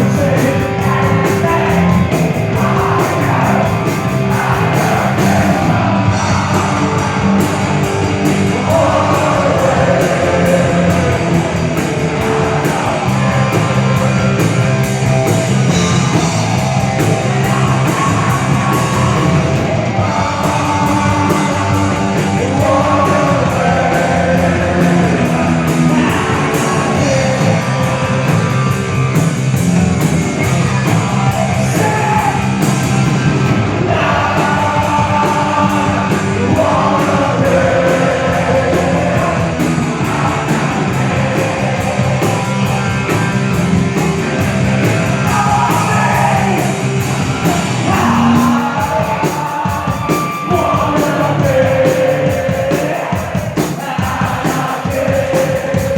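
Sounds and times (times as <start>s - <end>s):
person shouting singing: 0.0s - 14.5s, 15.7s - 28.8s, 30.6s - 32.8s, 33.8s - 43.2s, 44.8s - 55.9s
punk rock band playing: 0.0s - 55.9s.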